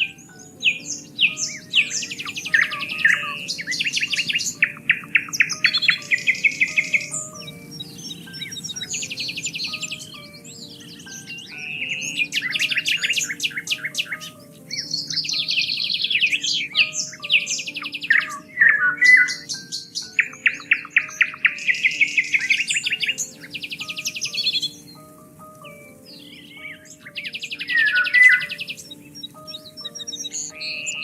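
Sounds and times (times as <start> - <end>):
songbirds trilling and chirping: 0.0 - 31.0.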